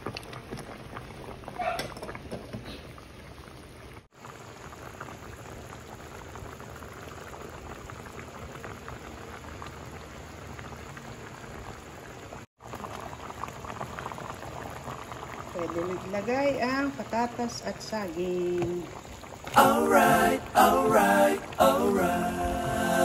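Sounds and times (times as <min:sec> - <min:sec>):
stew bubbling in a pot: 0:00.0 - 0:23.0.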